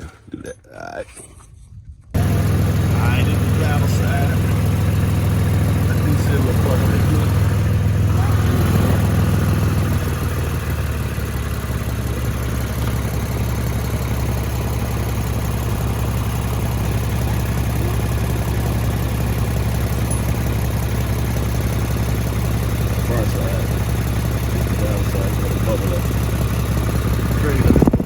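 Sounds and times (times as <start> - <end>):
car engine idling: 2.2 - 28.0.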